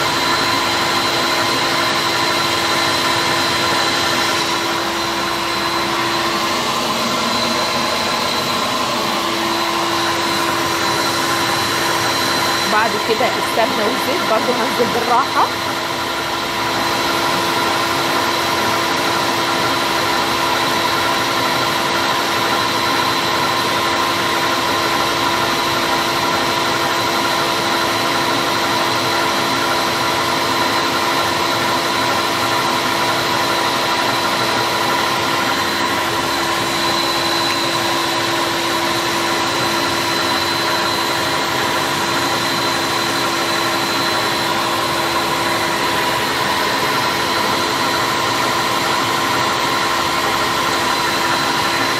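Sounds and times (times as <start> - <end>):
stand mixer whisking batter: 0.0 - 51.9.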